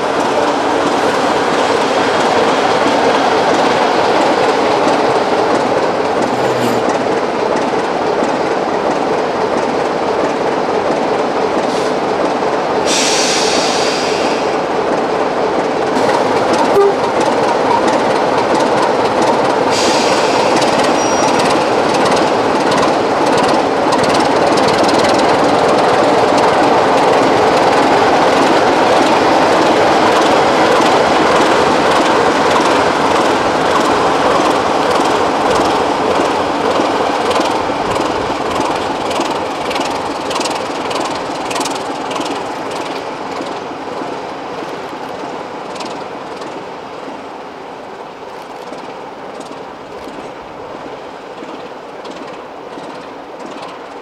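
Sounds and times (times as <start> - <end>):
diesel locomotive running: 0.0 - 54.0
train wheels clicking over rail joints: 0.1 - 47.3, 48.3 - 54.0.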